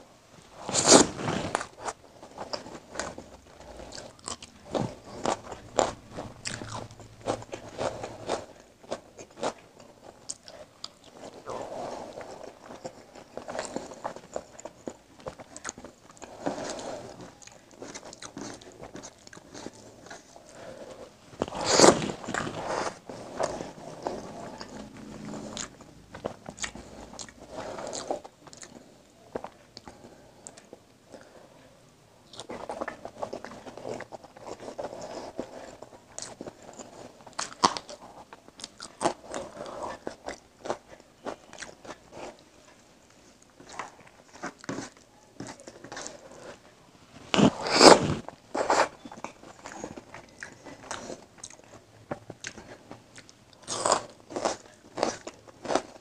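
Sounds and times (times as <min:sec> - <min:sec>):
person chewing crunchy food: 0:00.6 - 0:31.4, 0:32.3 - 0:42.5, 0:43.1 - 0:46.6, 0:47.3 - 0:56.0.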